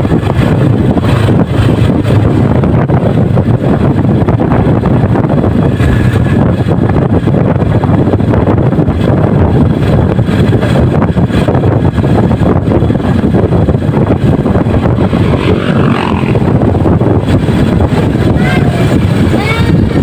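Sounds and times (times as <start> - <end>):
motorcycle engine rumble: 0.0 - 20.0
wind buffeting microphone: 0.0 - 20.0.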